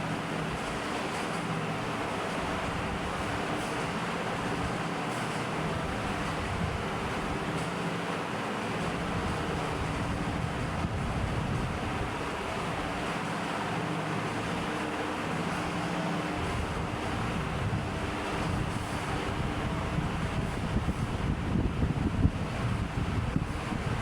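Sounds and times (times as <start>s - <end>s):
electric fan running: 0.0s - 24.0s
low air buffeting: 0.0s - 24.0s.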